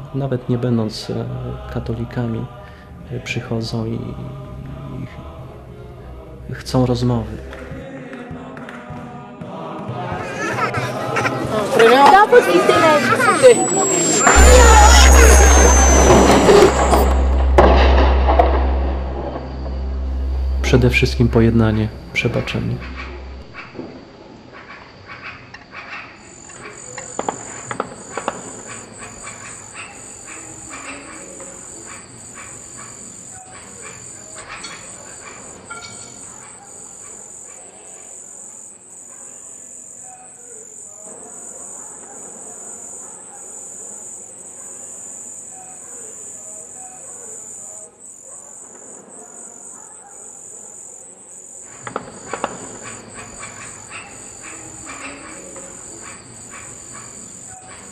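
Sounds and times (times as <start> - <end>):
crickets chirping: 0.0 - 8.3, 9.5 - 57.9.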